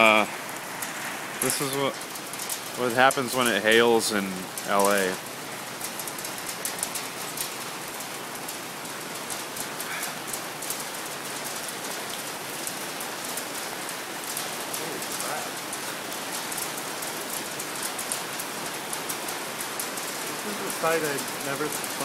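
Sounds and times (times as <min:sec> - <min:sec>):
hail pellets pattering: 0:00.0 - 0:22.0.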